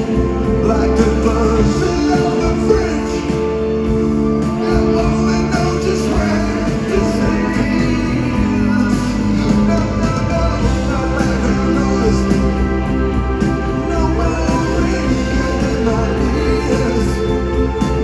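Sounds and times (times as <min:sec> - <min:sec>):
drums: 0:00.0 - 0:18.0
person singing: 0:00.0 - 0:18.0.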